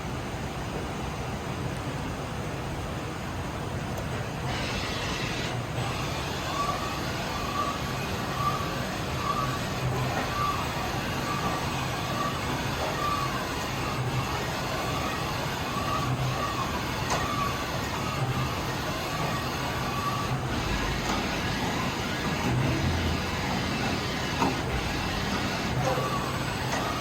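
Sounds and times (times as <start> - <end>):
machining center running with whine: 4.0 - 27.0.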